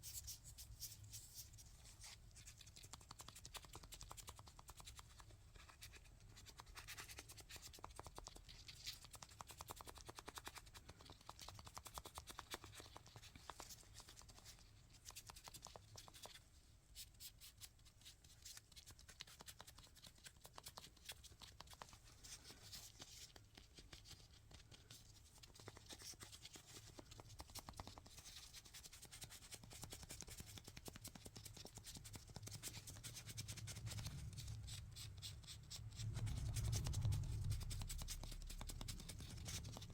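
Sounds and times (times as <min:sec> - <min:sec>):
hands scratching and clicking objects: 0:00.0 - 0:39.9.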